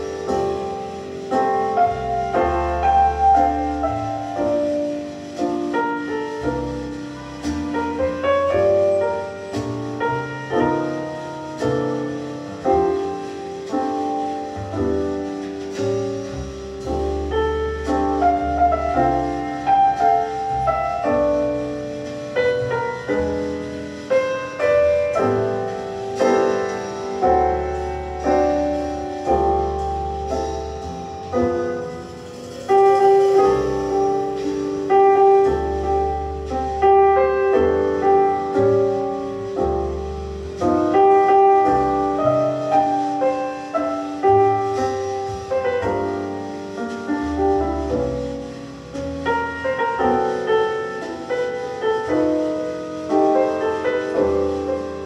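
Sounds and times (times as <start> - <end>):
piano instrumental music: 0.0 - 55.0.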